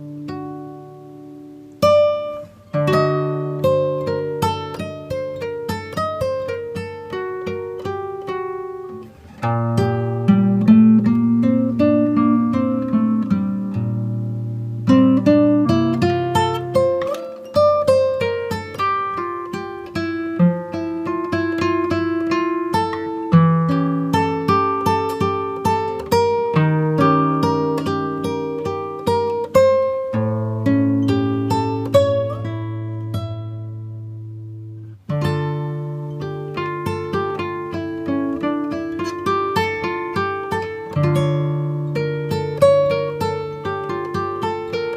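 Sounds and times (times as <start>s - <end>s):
fingerpicked acoustic guitar: 0.0s - 44.9s.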